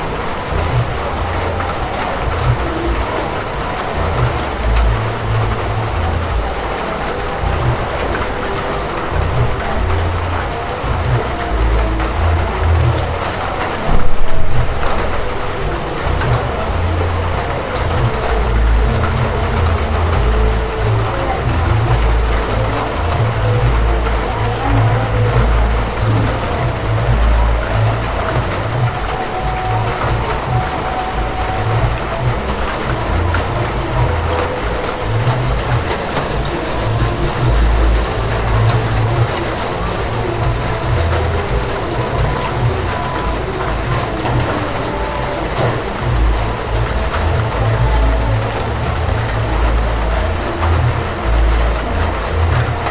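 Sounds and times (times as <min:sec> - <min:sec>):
deep rumble: 0:00.0 - 0:52.9
heavy rain pouring: 0:00.0 - 0:52.9.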